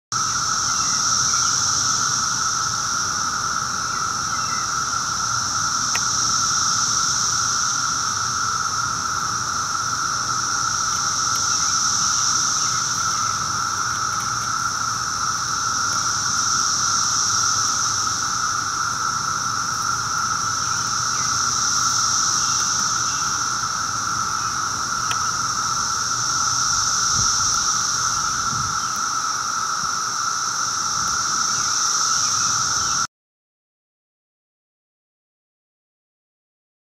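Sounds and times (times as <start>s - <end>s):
cicadas buzzing: 0.1s - 33.1s.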